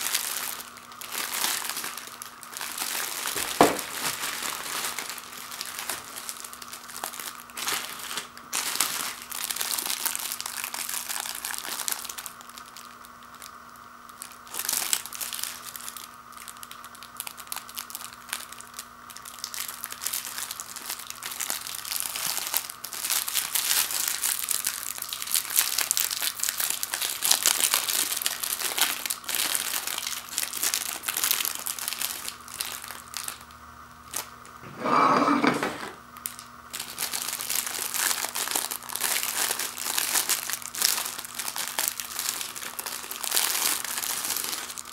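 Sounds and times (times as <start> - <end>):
foil pouches crinkling: 0.0 - 34.7, 36.2 - 44.9.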